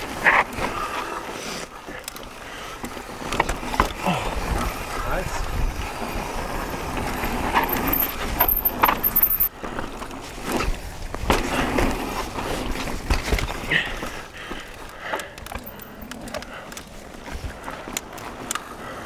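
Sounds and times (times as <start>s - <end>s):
bike rattling over bumps: 0.0s - 19.0s
bike tyres on dirt: 0.0s - 19.0s.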